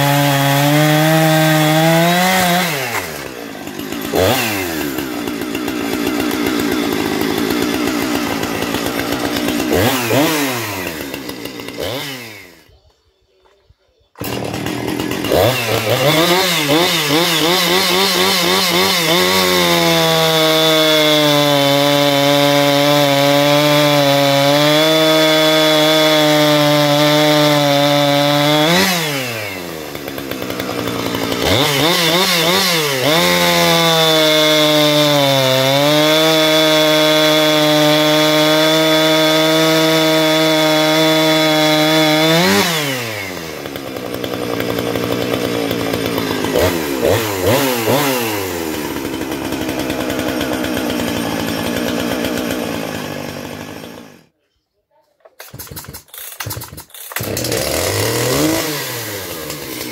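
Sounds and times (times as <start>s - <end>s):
chainsaw cutting log: 0.0s - 12.9s, 14.2s - 54.4s, 55.3s - 59.9s.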